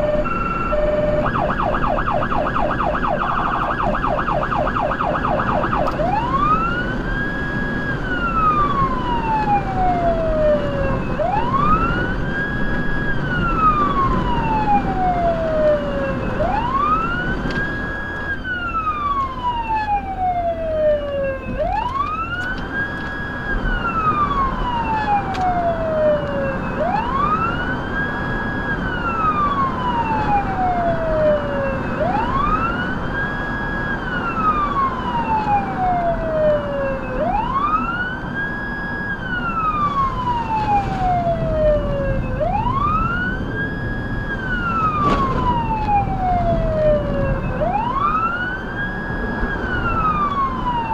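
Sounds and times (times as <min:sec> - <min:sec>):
electronic siren wailing: 0:00.0 - 0:50.9
road noise: 0:00.0 - 0:50.9.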